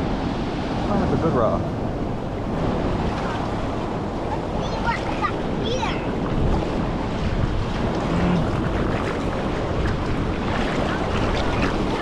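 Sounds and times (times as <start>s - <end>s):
surf washing over rocks: 0.0s - 12.0s
wind rumbling on microphone: 0.0s - 12.0s.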